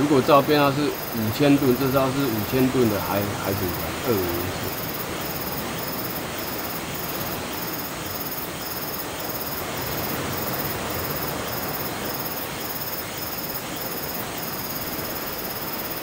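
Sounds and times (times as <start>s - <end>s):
surf: 0.0s - 16.0s
wind: 0.0s - 16.0s.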